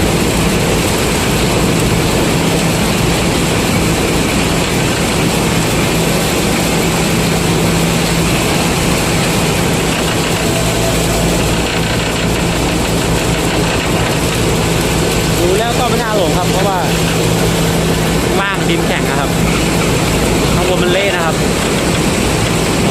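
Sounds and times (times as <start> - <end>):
combine harvester engine droning: 0.0 - 22.9.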